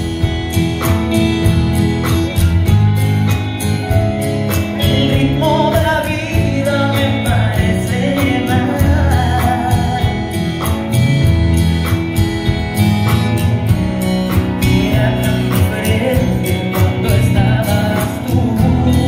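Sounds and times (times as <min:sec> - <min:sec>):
bass guitar: 0:00.0 - 0:19.0
guitar: 0:00.0 - 0:19.0
steady drum beat: 0:00.0 - 0:19.0.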